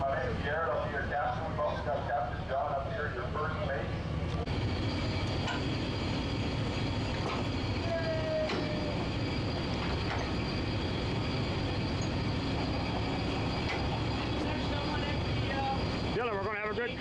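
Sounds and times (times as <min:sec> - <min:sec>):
boat engines idling: 0:00.0 - 0:17.0.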